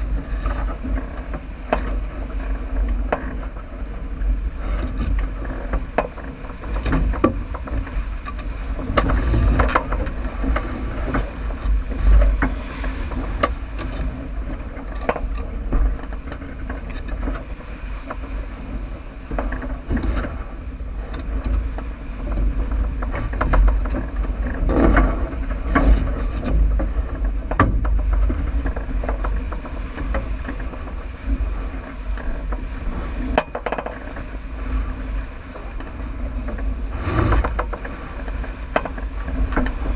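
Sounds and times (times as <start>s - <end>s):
knocks and clicks of boat fittings: 0.0s - 39.9s
water rushing along hull: 0.0s - 39.9s
wind rumble on microphone: 0.0s - 39.9s.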